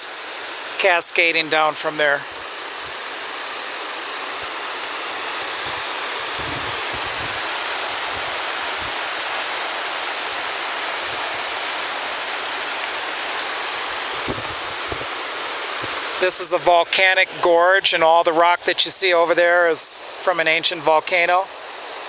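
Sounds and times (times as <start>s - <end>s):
waterfall into pond: 0.0s - 17.8s.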